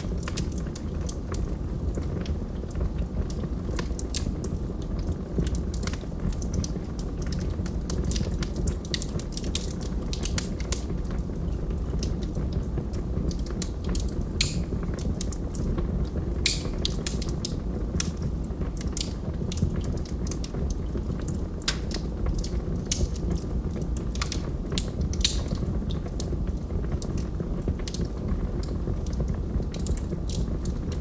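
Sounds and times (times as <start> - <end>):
logs crackling and popping in fireplace: 0.0 - 31.0.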